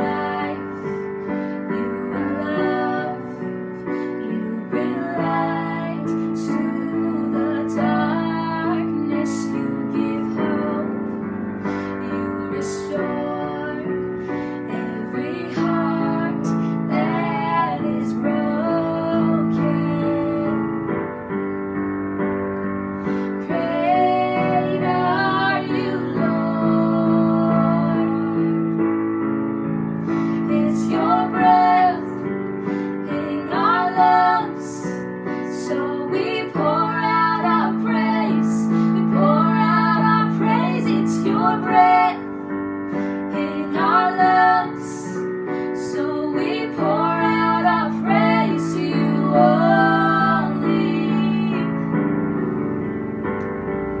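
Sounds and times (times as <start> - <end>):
woman singing: 0.0 - 20.9, 23.2 - 28.6, 30.2 - 51.8
piano chords: 0.0 - 54.0.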